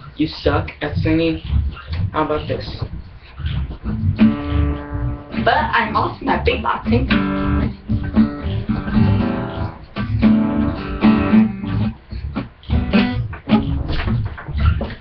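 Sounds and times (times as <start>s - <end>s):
acoustic guitar strumming: 0.9s - 15.0s.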